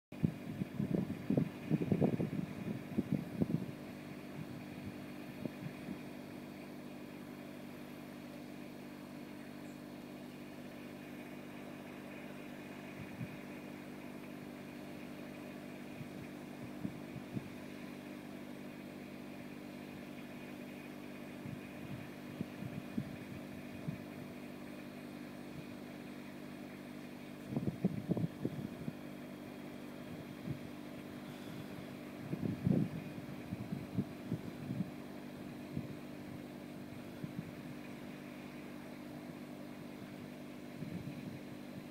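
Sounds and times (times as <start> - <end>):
diesel pump running: 0.1 - 41.9.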